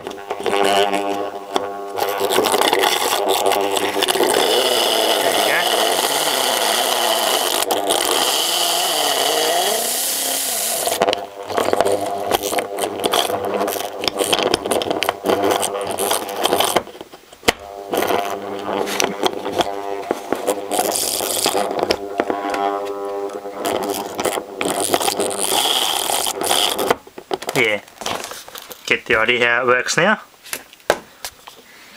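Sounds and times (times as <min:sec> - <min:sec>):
small electric motor whirring: 0:00.0 - 0:27.6
motor stuttering buzz: 0:00.0 - 0:28.8.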